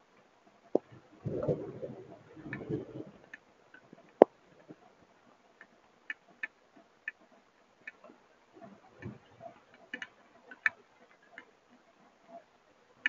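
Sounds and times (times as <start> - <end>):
raindrops ticking on camera: 0.0 - 13.0.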